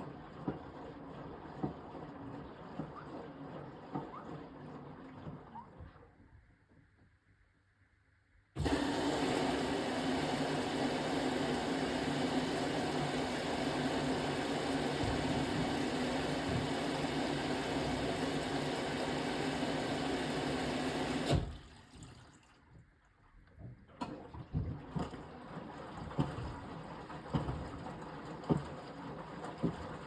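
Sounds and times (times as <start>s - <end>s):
water rushing into washing machine: 0.0s - 6.6s, 8.6s - 30.0s.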